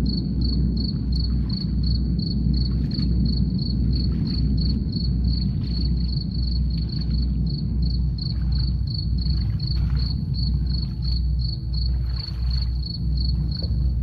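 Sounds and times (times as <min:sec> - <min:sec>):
crickets chirping: 0:00.0 - 0:14.0
deep low drum beat: 0:00.0 - 0:14.0.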